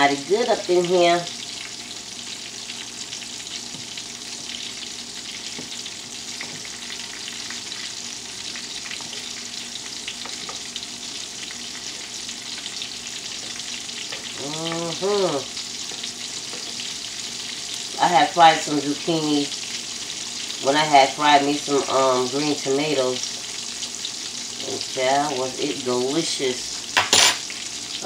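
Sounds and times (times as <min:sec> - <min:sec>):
fish frying in hot oil: 0:00.0 - 0:28.0.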